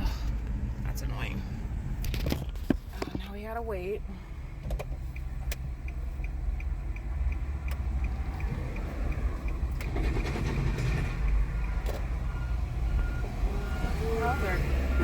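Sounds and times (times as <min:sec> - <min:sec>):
car engine idling: 0:00.0 - 0:15.0
road-work machinery: 0:00.0 - 0:15.0.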